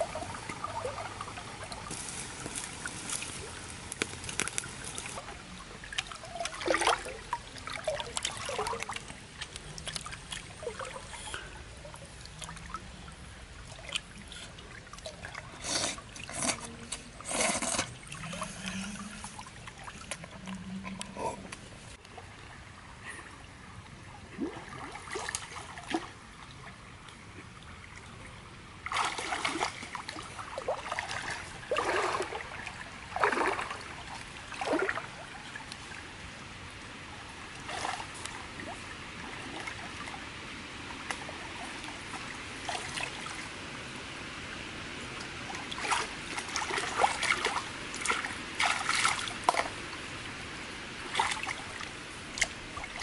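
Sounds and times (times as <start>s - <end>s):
trickle of flowing water: 0.0s - 53.0s
water splashing from wading: 0.0s - 53.0s.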